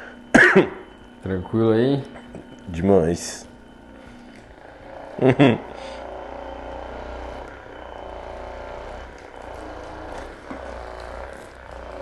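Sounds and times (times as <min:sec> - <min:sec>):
massager motor humming: 0:00.0 - 0:12.0.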